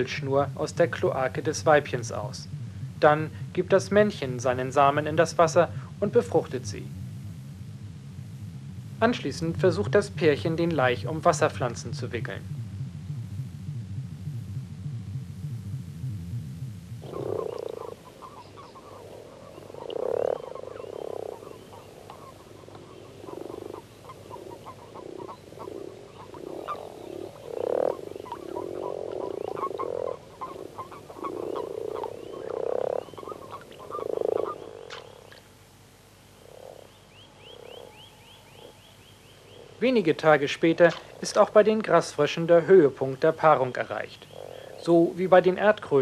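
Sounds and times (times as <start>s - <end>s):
frogs croaking: 0.0s - 46.0s.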